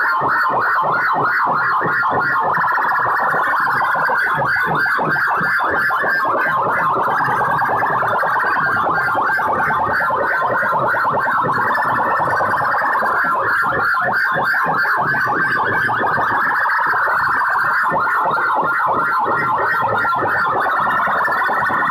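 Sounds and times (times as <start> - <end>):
siren-like music from loudspeakers: 0.0 - 21.9.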